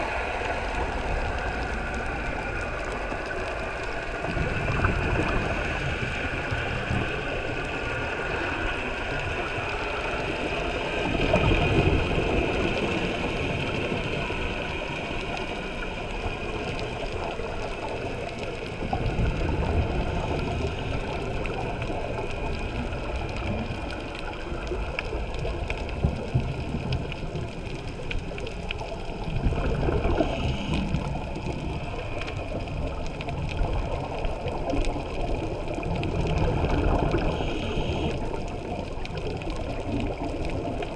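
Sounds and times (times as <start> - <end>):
scuba regulator bubbles: 0.0 - 40.9
underwater water noise: 0.0 - 40.9.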